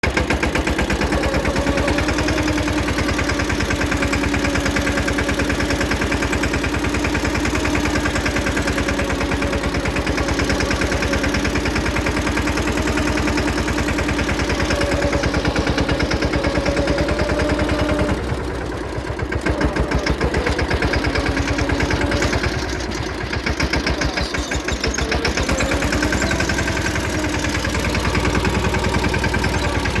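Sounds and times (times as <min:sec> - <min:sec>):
small tractor engine pulsing: 0:00.0 - 0:30.0.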